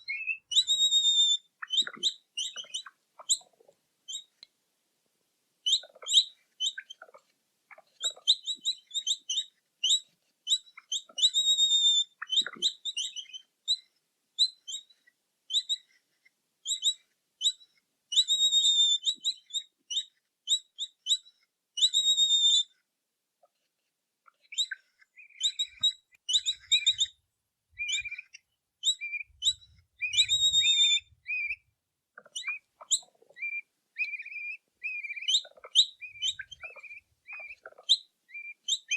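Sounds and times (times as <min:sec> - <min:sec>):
capybara chirping squeaks: 0:00.0 - 0:04.4, 0:05.7 - 0:14.9, 0:16.7 - 0:22.7, 0:24.4 - 0:27.2, 0:27.8 - 0:38.9.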